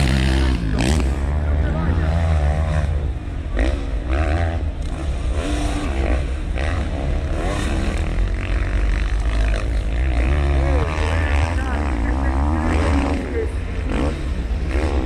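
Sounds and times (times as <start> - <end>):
motocross engines revving: 0.0 - 15.0.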